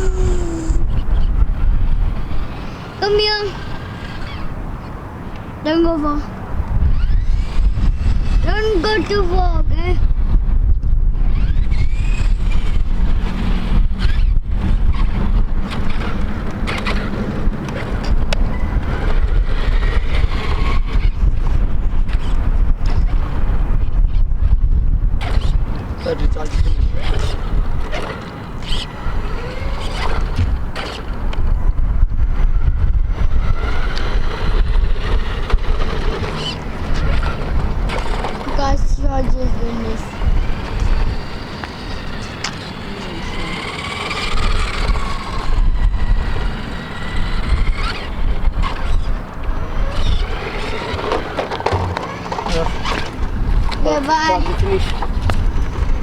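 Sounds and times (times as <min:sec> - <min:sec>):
faint rising and falling whines: 0:00.0 - 0:10.2, 0:11.1 - 0:23.9, 0:25.2 - 0:56.0
wind buffeting microphone: 0:00.0 - 0:56.0.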